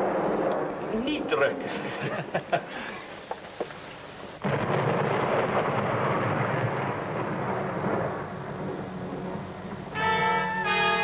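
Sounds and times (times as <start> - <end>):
thunderclap rumbling: 0.0 - 2.7, 4.2 - 11.0.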